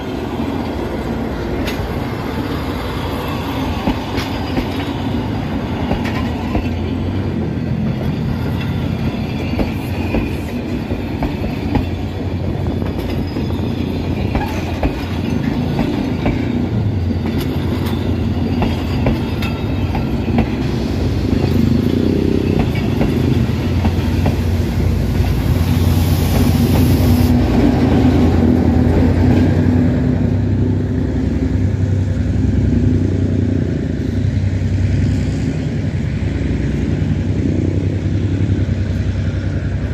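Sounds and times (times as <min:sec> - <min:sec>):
diesel locomotive engine hum: 0:00.0 - 0:39.9
train carriages rumbling past: 0:00.0 - 0:39.9.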